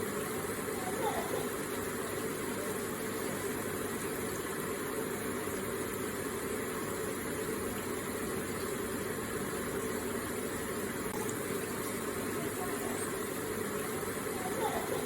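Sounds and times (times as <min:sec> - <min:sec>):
water feature running: 0:00.0 - 0:15.0.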